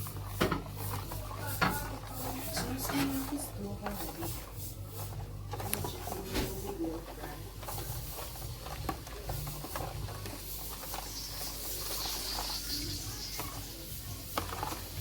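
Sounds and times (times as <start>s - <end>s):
food hissing on stove: 0.0s - 15.0s
utensils clicking and tapping: 0.0s - 15.0s.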